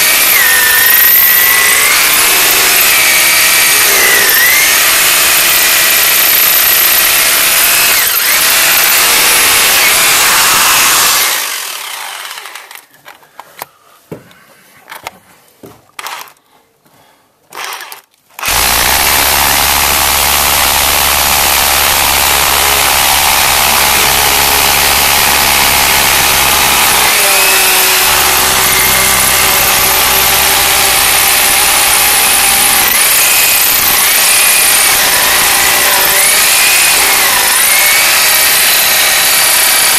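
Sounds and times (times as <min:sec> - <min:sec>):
power drill boring into concrete: 0:00.0 - 0:13.0, 0:17.5 - 0:39.9.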